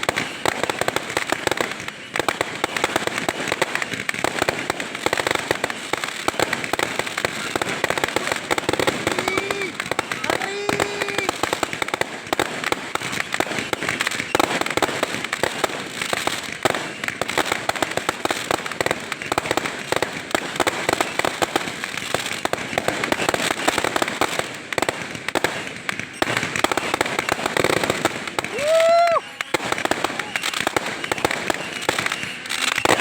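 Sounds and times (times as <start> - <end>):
fireworks popping and crackling: 0.0 - 33.0.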